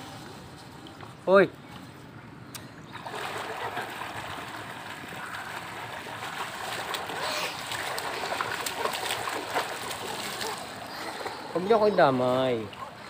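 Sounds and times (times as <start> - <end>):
hands splashing pool water: 2.5 - 13.0.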